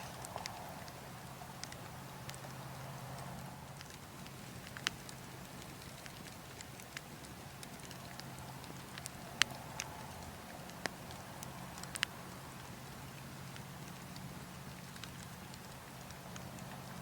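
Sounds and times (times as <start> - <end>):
burning logs crackling: 0.0 - 17.0
low rush of wind: 0.0 - 17.0.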